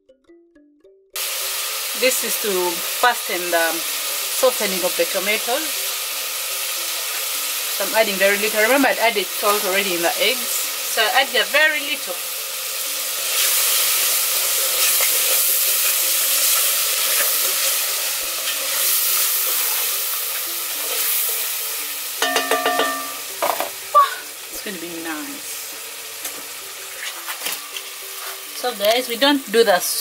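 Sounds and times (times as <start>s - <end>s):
tomatoes sizzling in a saucepan: 1.2s - 30.0s.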